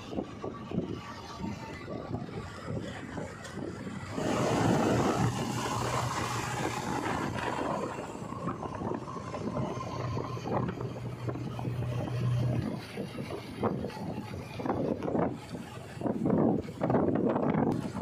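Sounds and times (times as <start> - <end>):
diesel engine running: 0.0 - 18.0
wind noise on microphone: 0.0 - 18.0.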